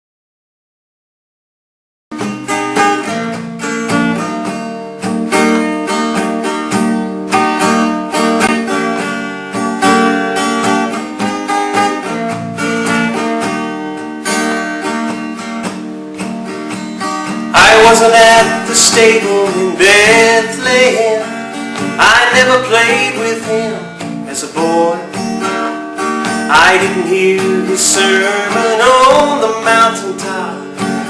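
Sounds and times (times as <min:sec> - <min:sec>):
acoustic guitar chords: 0:02.1 - 0:31.0.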